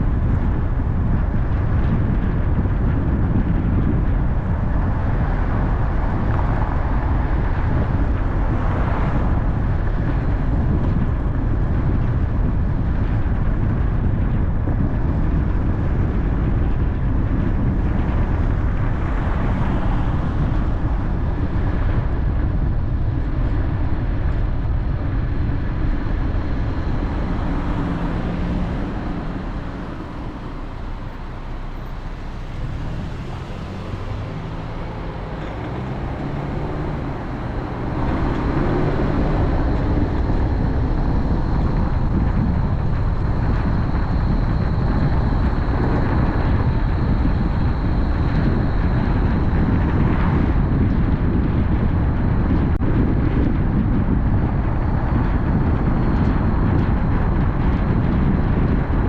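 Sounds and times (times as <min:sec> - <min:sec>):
low engine hum: 0:00.0 - 0:59.0
road and tyre noise: 0:00.0 - 0:59.0.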